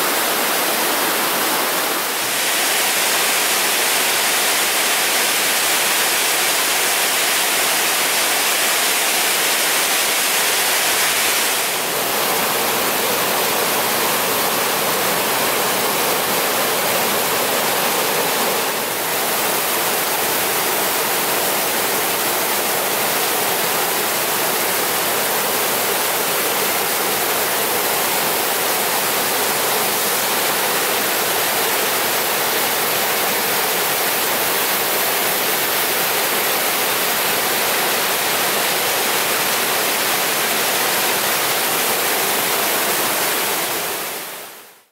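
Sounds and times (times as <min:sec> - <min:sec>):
waterfall rushing: 0:00.0 - 0:44.8.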